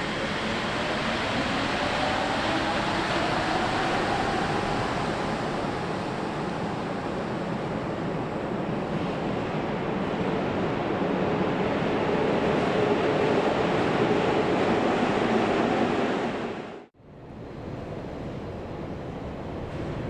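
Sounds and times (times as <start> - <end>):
train whine: 0.0 - 20.0.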